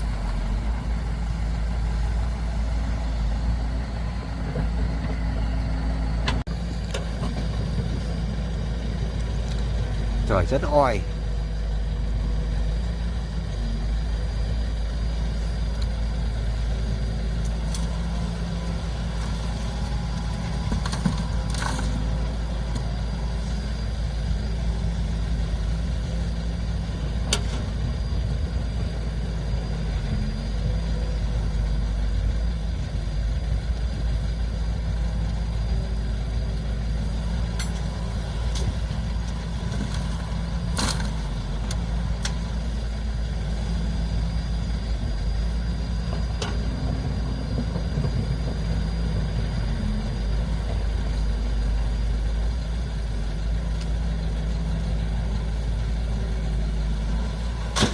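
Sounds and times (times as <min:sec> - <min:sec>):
diesel engine rumbling: 0:00.0 - 0:57.9.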